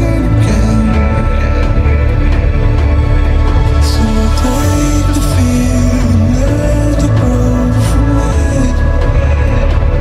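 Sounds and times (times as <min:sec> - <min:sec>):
slow dark music with heavy bass: 0:00.0 - 0:10.0.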